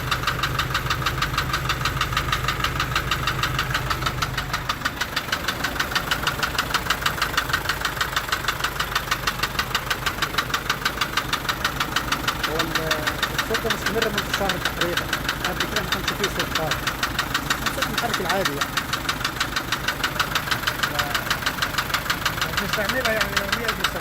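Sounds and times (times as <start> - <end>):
engine running: 0.0 - 24.0
regular sharp engine noise: 0.0 - 24.0.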